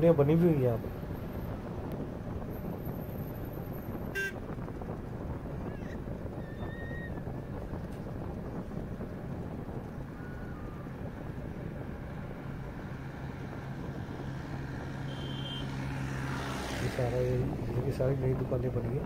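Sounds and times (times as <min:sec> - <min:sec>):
vehicle road and engine noise: 0:00.0 - 0:19.0
wind on microphone: 0:00.0 - 0:19.0.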